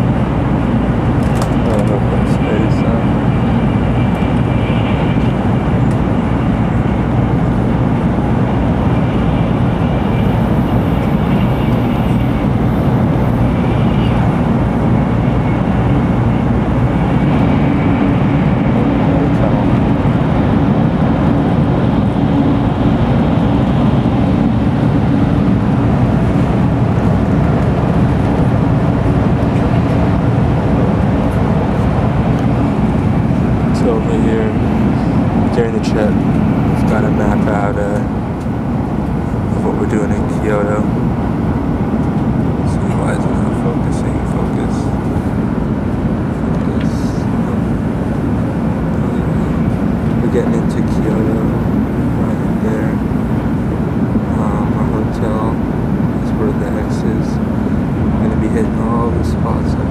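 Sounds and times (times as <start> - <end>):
train running deep rumble: 0.0 - 59.9.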